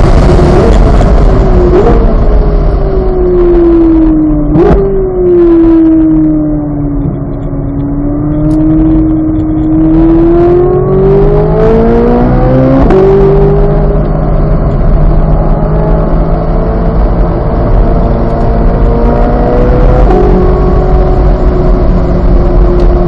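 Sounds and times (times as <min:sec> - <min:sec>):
sports car engine accelerating: 0:00.0 - 0:23.0.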